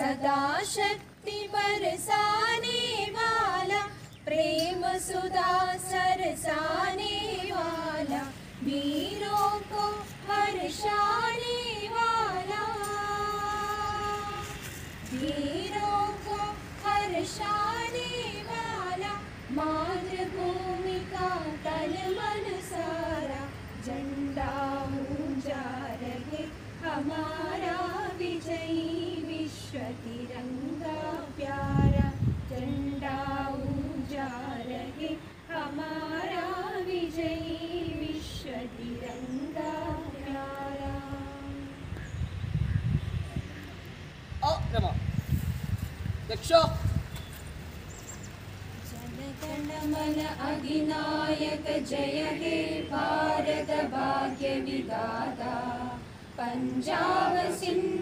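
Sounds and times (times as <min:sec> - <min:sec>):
woman singing unaccompanied: 0:00.0 - 0:42.0, 0:48.9 - 0:58.0.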